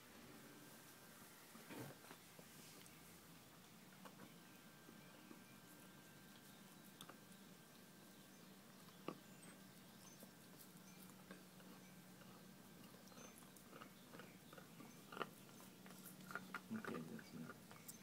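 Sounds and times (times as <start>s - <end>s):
pet chewing on a bone: 2.1s - 18.0s.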